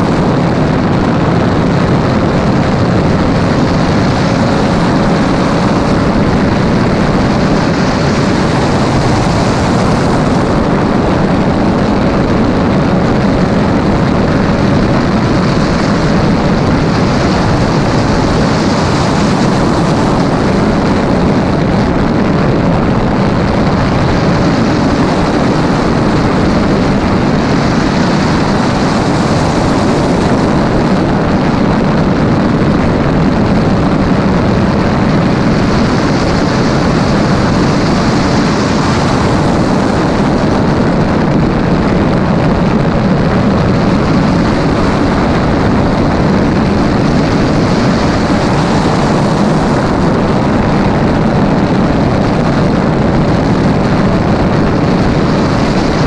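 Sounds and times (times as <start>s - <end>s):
loud wind rush: 0.0s - 56.0s
race car engine at high revs: 0.0s - 56.0s.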